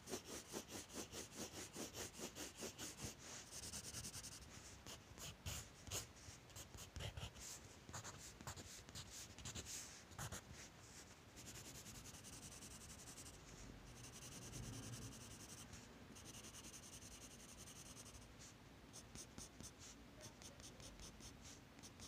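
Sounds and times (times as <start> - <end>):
pencil scratching on paper: 0.0 - 10.5, 11.4 - 22.0.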